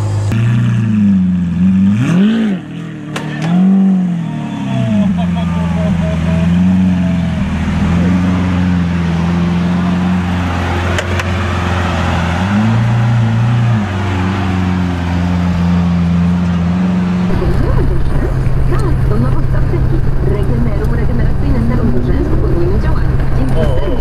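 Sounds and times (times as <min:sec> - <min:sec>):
car engine idling: 0:02.8 - 0:24.0.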